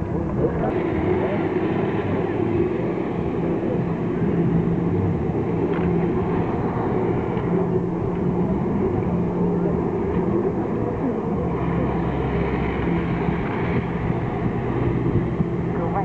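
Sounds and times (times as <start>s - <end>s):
watercraft engine droning: 0.0s - 16.0s.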